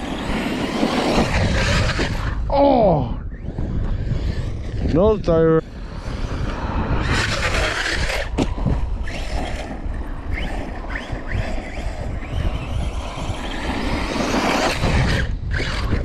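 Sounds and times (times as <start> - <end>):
electric motor whining: 0.0 - 5.0, 5.6 - 16.0
wind rumble on microphone: 0.0 - 16.0.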